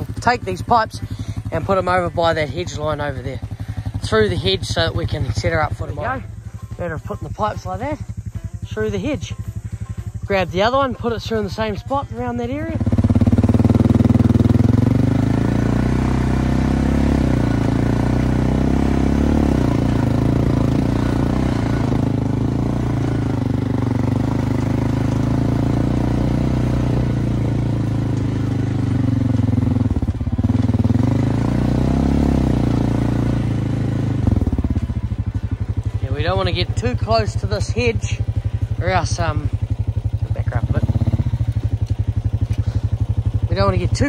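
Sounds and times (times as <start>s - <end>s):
quad bike engine running: 0.0s - 44.0s.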